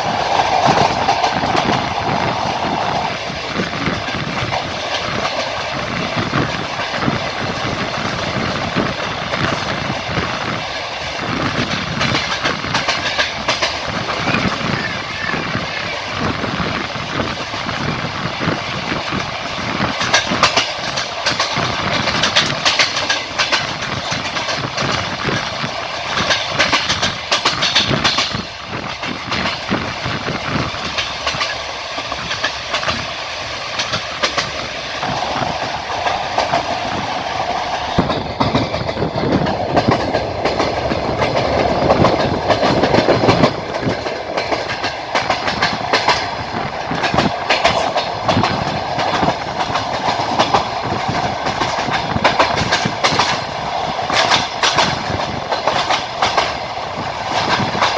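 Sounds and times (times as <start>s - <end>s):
train rushing noise: 0.0s - 57.9s
train wheels clattering over rail joints: 0.0s - 57.9s.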